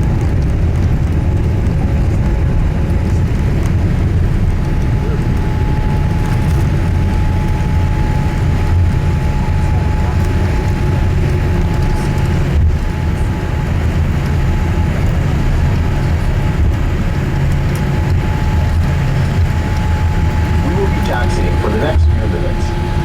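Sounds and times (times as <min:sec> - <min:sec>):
aircraft engines rumbling at idle: 0:00.0 - 0:23.0
thin steady whine: 0:03.0 - 0:23.0.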